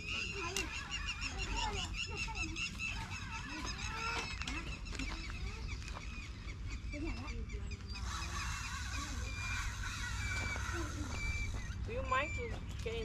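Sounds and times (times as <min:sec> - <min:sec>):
flock of birds honking and chirping: 0:00.0 - 0:13.0.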